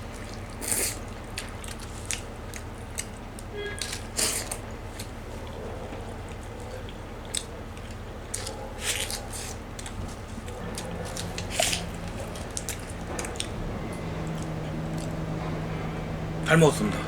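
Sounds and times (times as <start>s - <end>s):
man chewing food: 0.0s - 16.4s.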